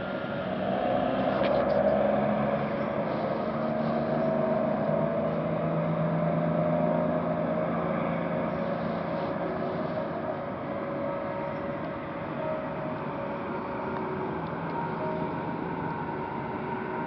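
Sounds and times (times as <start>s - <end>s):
mechanical drone: 0.0s - 17.0s.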